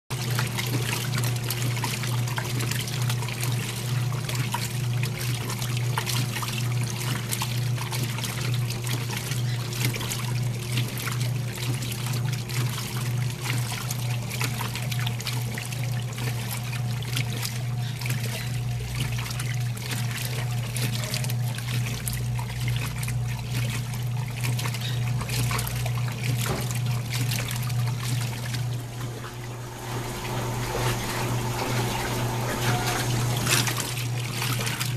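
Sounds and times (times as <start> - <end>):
washing machine motor hum: 0.1 - 34.9
water trickling and splashing: 0.1 - 34.9.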